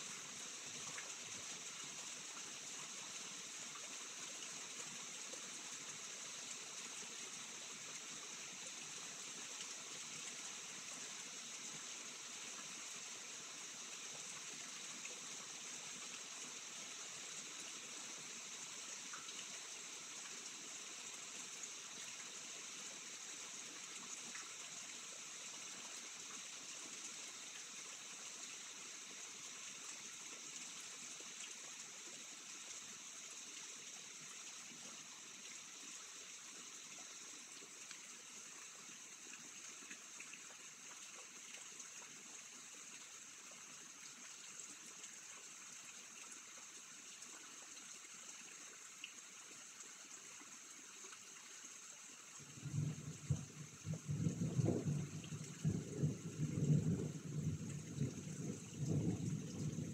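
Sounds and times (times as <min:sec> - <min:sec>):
rain falling: 0:00.0 - 0:51.5, 0:52.1 - 0:59.9.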